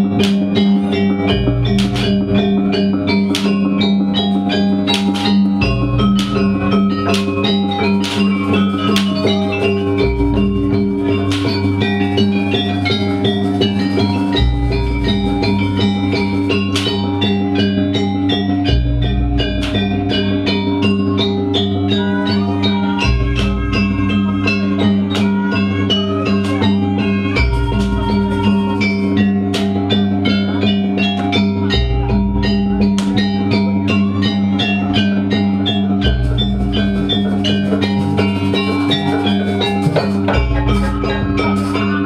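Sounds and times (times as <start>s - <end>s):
gamelan-style percussion ensemble: 0.0s - 42.0s.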